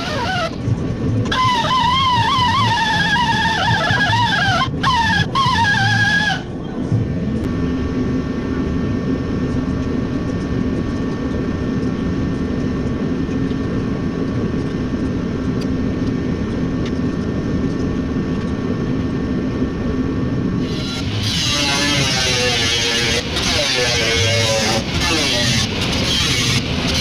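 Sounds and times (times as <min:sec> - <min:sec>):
machine drone: 0:00.0 - 0:27.0.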